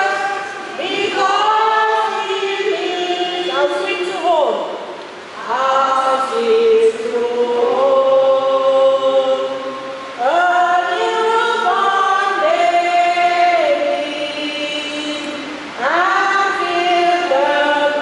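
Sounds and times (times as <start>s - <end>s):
choir singing a slow hymn: 0.0s - 4.1s, 5.2s - 18.0s.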